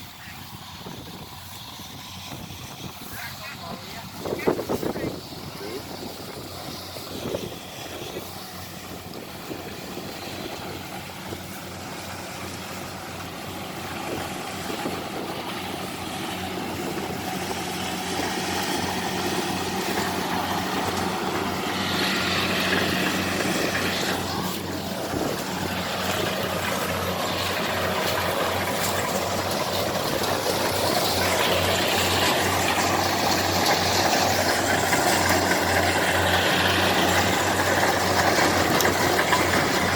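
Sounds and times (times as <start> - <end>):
combine harvester engine running: 0.0 - 39.9
machinery clatter: 0.1 - 39.9.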